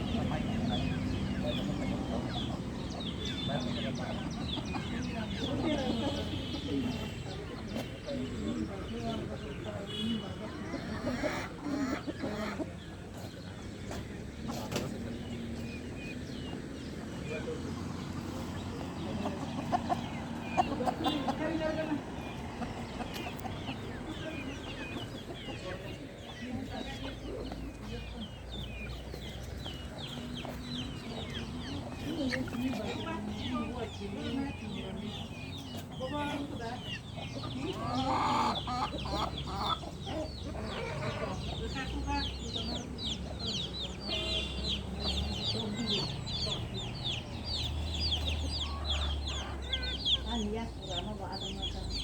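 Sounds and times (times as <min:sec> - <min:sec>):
chickens chirping: 0:00.0 - 0:52.0.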